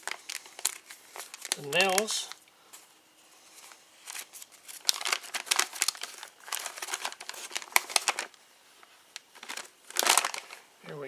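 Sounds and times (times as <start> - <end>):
paper crinkling and rustling: 0.0 - 10.7.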